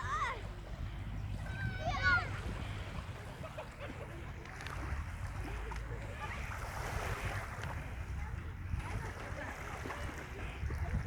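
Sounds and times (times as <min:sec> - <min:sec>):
faint distant voices: 0:00.0 - 0:11.0
surf washing: 0:00.0 - 0:11.0
wind rumbling on microphone: 0:00.0 - 0:11.0.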